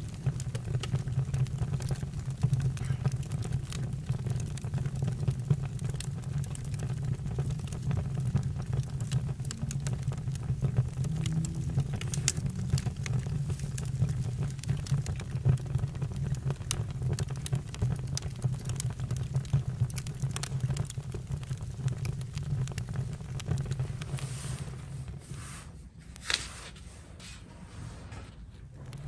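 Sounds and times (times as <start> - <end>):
campfire crackling and popping: 0.0 - 25.3, 28.6 - 29.0
low fire rumble: 0.0 - 26.3, 26.9 - 29.0.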